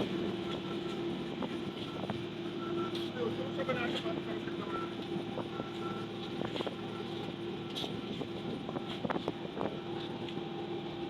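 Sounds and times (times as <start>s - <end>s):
diesel engines running: 0.0s - 11.0s.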